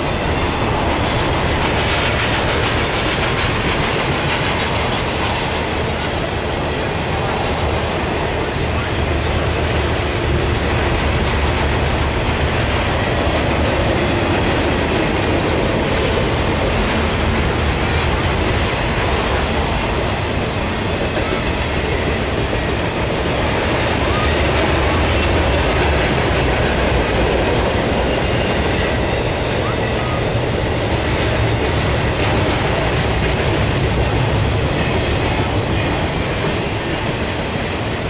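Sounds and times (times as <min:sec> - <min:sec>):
train wheels rolling over rails: 0:00.0 - 0:38.0.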